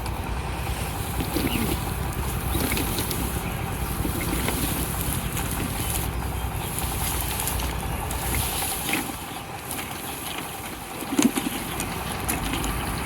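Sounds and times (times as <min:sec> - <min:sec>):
faint rustling: 0:00.8 - 0:12.9.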